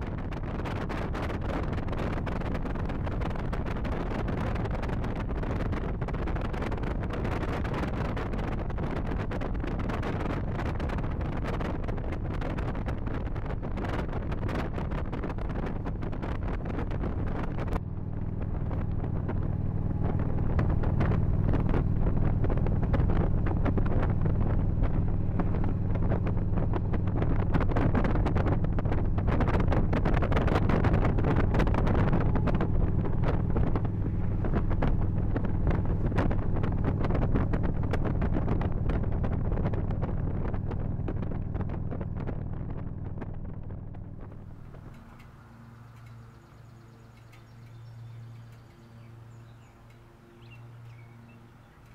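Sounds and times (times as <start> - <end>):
motorcycle engine running: 0.0 - 50.0
wind buffeting microphone: 0.0 - 51.9.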